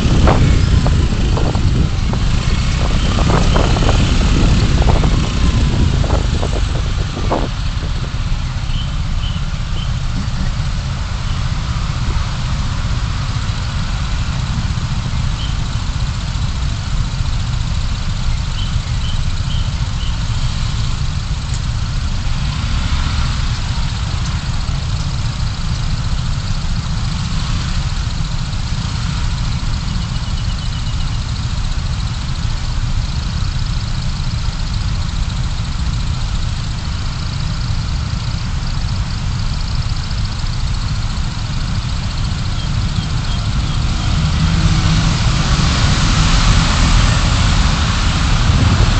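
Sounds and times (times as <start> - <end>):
car engine rumble: 0.0 - 48.9
road noise: 0.0 - 48.9.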